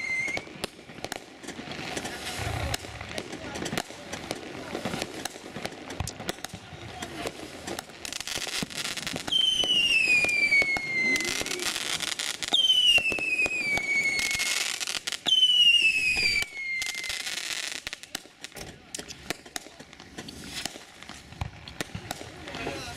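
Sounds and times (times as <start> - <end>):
firework pops and crackling: 0.0 - 22.9
whistling fireworks: 0.0 - 22.9.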